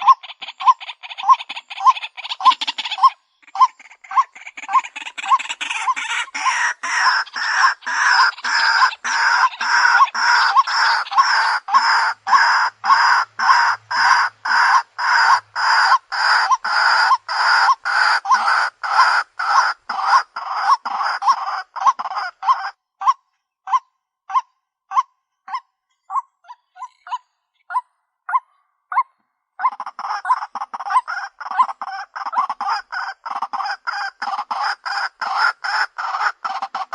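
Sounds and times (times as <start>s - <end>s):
waterhen calling harsh croaks: 0.0s - 25.6s, 26.5s - 36.9s.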